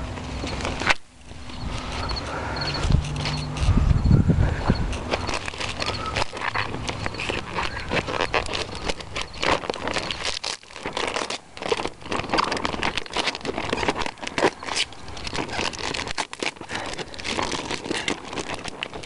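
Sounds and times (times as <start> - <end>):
plastic sheeting crinkling: 0.0 - 19.0.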